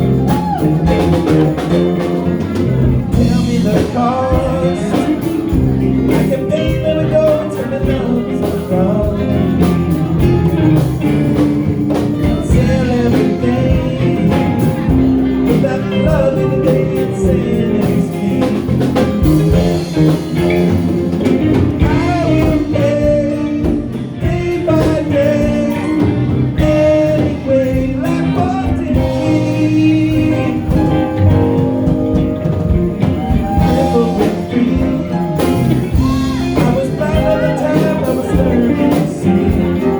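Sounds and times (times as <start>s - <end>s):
guitar: 0.0s - 39.9s
person singing: 0.0s - 39.9s.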